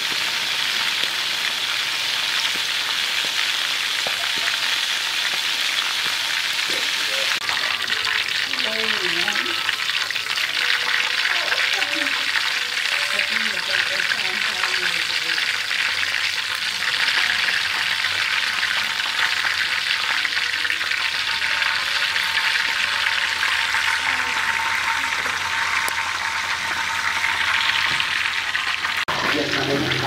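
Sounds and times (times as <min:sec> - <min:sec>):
food deep-frying in oil: 0:00.0 - 0:30.0.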